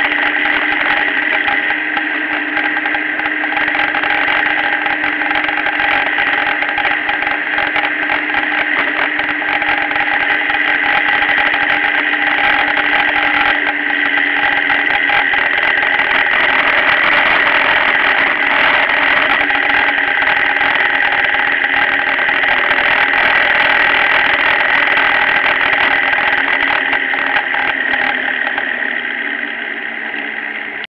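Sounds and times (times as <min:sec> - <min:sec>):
motorcycle engine drone: 0:00.0 - 0:30.9
wind and road rush: 0:00.0 - 0:30.9.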